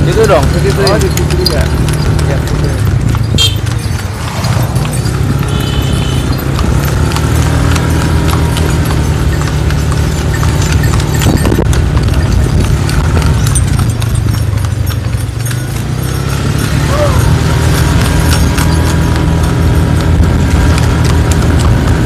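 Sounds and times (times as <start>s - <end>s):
horse hooves clip-clopping on pavement: 0.0s - 22.0s.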